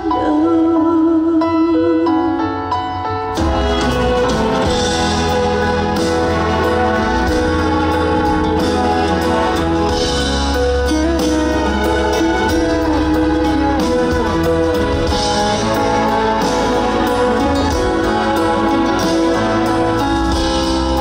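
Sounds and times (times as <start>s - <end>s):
band playing instrumental music: 2.1s - 21.0s.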